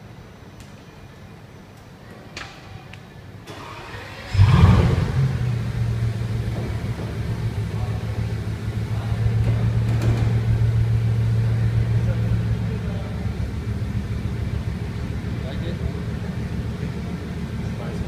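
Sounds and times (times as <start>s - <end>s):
car engine starting and idling: 3.4s - 18.0s.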